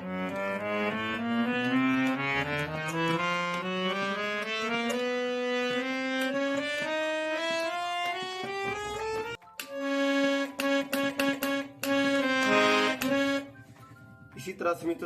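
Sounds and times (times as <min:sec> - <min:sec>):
harmonium notes: 0:00.0 - 0:14.6
harmonium key clicks: 0:00.1 - 0:13.4.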